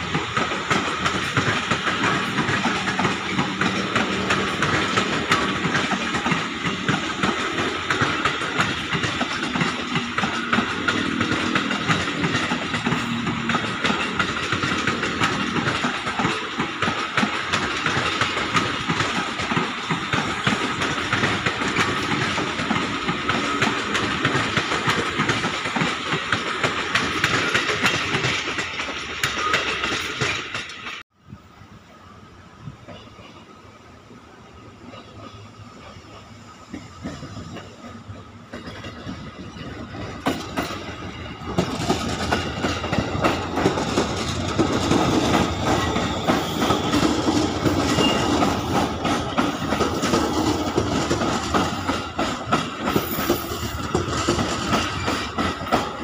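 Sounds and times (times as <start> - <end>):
wheels clattering over rail joints: 0.0 - 31.0, 34.9 - 56.0
train wheels rumbling on rail: 0.0 - 56.0.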